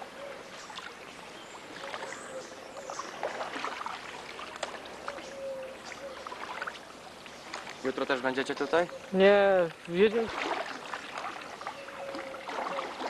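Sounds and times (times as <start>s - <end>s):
paddle pulling through water: 0.0s - 13.0s
small splashes and drips: 0.5s - 13.0s.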